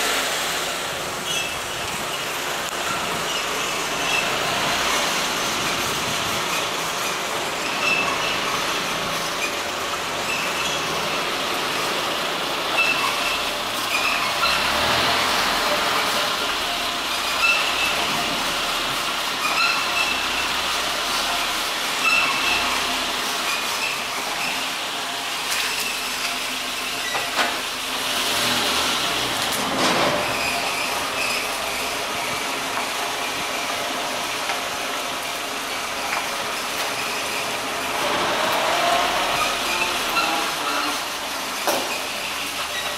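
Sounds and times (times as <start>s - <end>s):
moving car noise: 0.0s - 42.9s
car creaking and squeaking: 1.0s - 35.0s, 35.6s - 42.9s.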